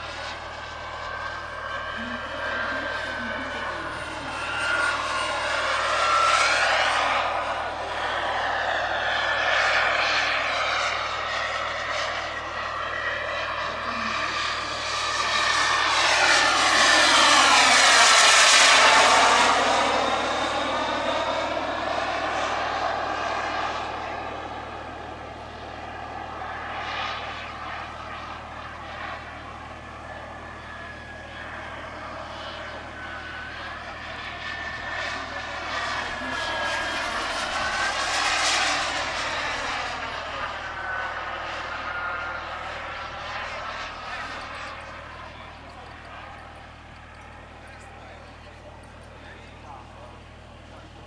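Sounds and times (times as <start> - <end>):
model jet turbine whining: 0.0 - 51.0.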